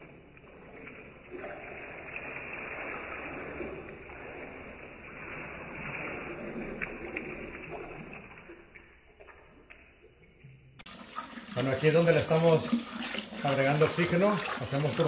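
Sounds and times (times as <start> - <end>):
liquid pouring and splashing into pot: 0.0 - 15.0.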